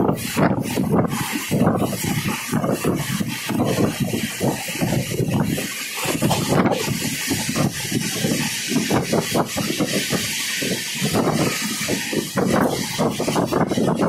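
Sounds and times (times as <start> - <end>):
wheels rumbling on rails: 0.0 - 14.0
wind rushing: 0.0 - 14.0.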